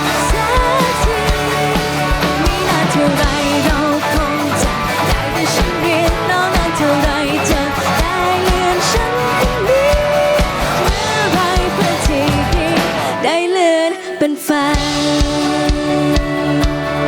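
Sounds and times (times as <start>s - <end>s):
pop-rock band playing: 0.0s - 17.0s.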